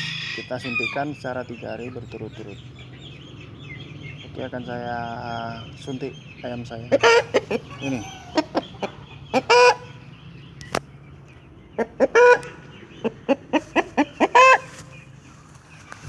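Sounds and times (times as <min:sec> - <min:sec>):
chicken clucking and squawking: 0:00.0 - 0:16.0.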